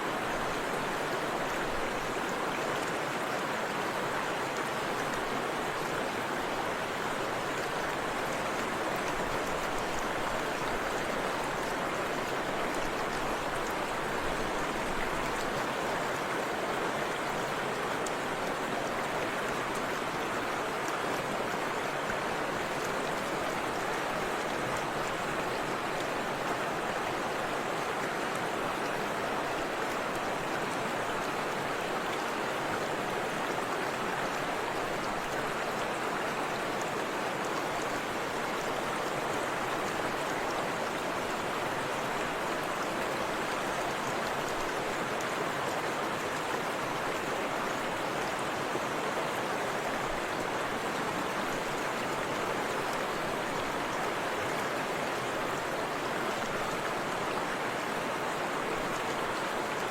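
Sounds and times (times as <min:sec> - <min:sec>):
river and waterfall rushing: 0:00.0 - 0:59.9.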